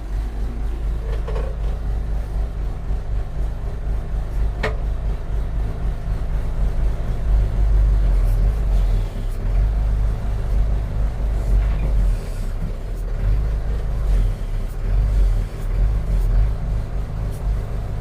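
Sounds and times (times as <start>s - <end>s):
backhoe engine rumbling: 0.0s - 18.0s.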